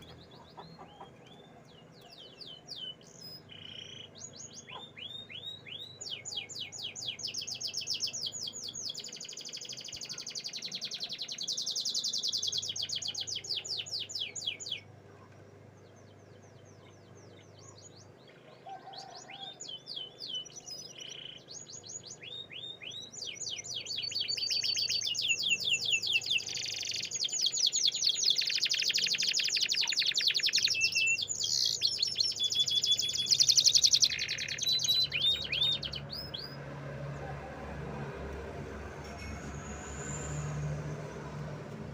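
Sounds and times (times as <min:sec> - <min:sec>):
canary singing trills: 0:00.0 - 0:36.7.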